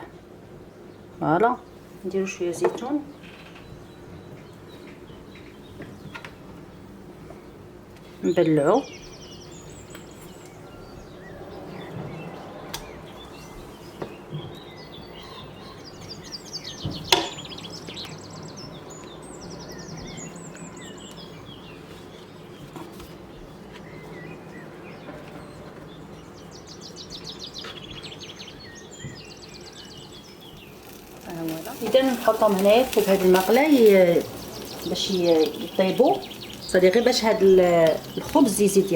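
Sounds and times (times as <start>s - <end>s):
small birds chirping: 0.0s - 38.9s
steady background noise: 0.0s - 38.9s.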